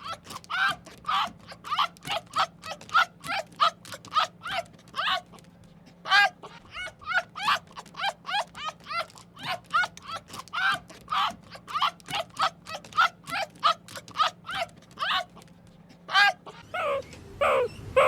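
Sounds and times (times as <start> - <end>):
animal yelping: 0.0 - 18.0.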